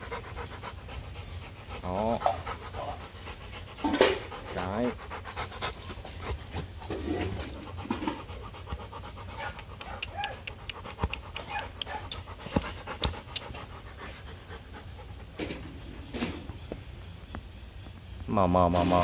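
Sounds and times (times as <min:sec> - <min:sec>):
puppy panting: 0:00.0 - 0:16.2.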